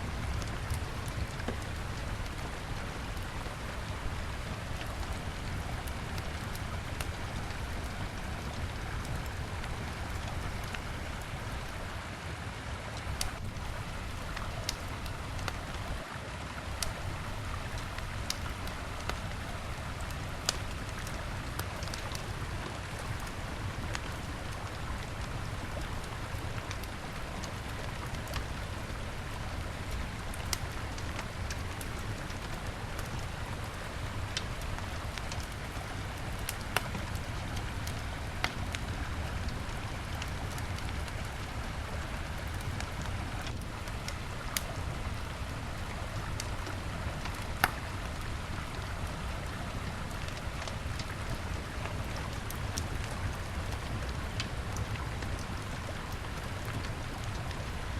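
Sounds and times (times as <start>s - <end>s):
wood fire crackling and popping: 0.1s - 12.0s, 13.0s - 57.9s.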